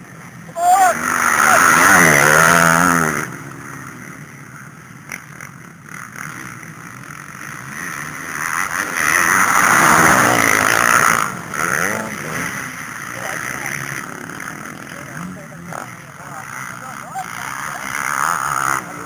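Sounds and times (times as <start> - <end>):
motocross bikes revving past: 0.0 - 19.0.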